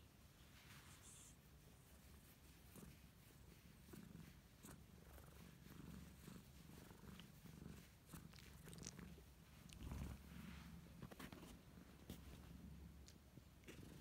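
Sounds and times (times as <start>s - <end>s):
cat purring: 0.4s - 14.0s.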